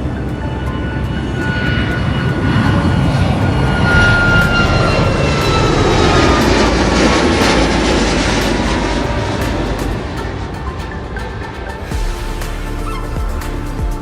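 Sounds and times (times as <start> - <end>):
jet airliner passing overhead: 0.0 - 13.4.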